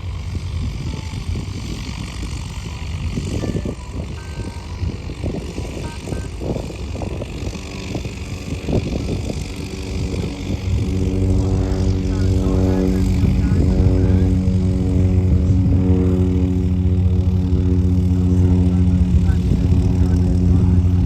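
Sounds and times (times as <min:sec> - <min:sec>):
propeller hum: 0:00.0 - 0:21.0
turboprop engine drone: 0:00.0 - 0:21.0.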